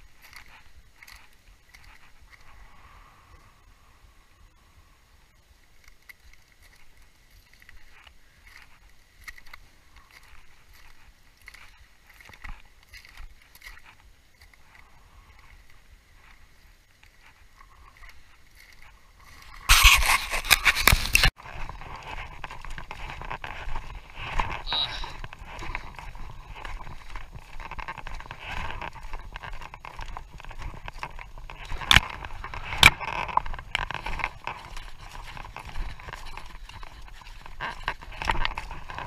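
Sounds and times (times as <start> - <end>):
footsteps crunching on ice: 5.9 - 39.0.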